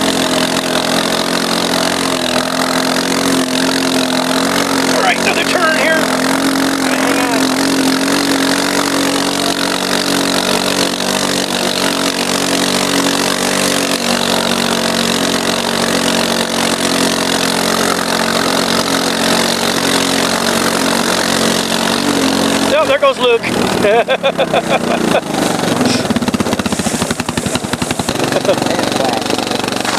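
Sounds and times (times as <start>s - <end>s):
quad engine running: 0.0s - 29.9s.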